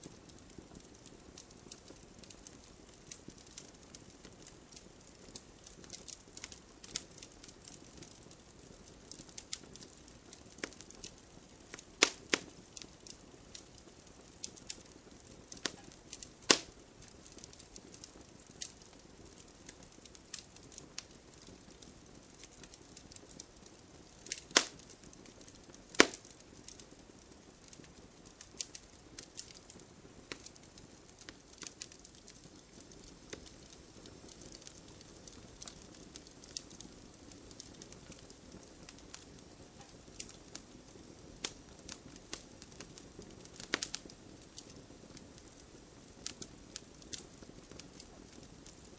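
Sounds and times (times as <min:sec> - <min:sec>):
wood fire crackling: 0:00.0 - 0:48.9
loud fire pops: 0:05.2 - 0:23.4, 0:24.0 - 0:48.8.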